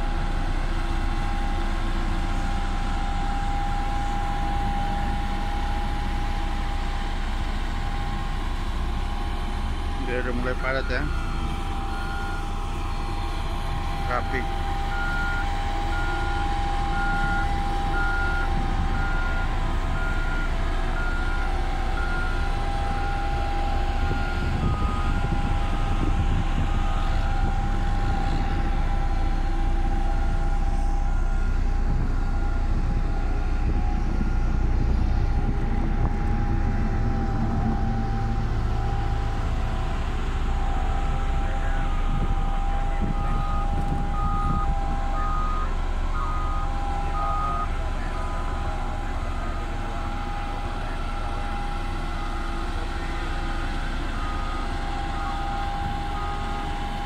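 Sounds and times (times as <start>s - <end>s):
diesel engine running: 0.0s - 57.0s
reversing alarm beeping: 0.4s - 57.0s.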